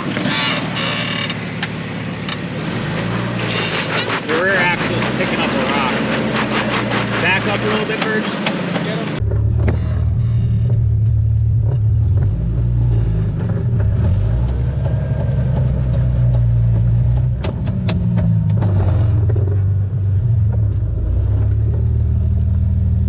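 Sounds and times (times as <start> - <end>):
vehicle engine running low: 0.0 - 23.0.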